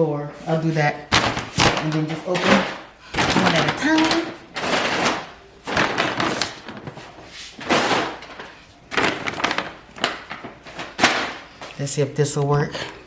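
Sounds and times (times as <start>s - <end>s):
grocery bags rustling: 0.0s - 13.0s
bag knocking on floor: 1.1s - 11.7s.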